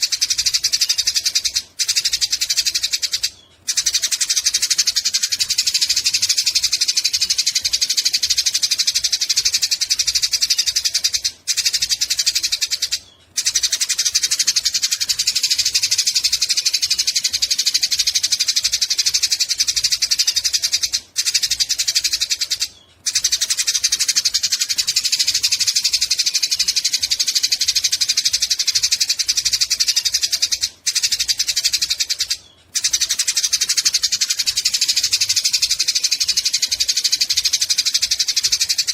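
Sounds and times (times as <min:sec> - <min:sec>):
sparrows chattering: 0:00.0 - 0:38.9.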